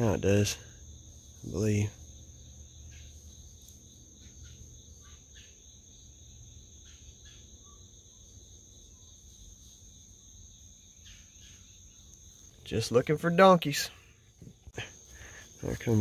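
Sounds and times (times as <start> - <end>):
crickets trilling: 0.0 - 16.0
faint insect chirps: 0.0 - 16.0.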